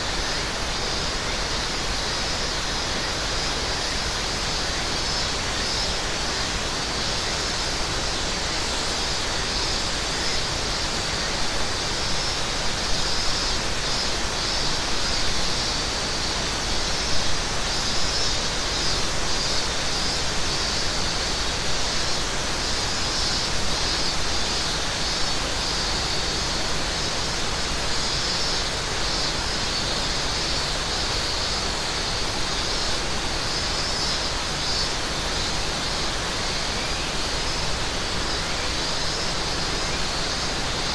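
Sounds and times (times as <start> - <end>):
cicadas chorus: 0.0 - 40.9.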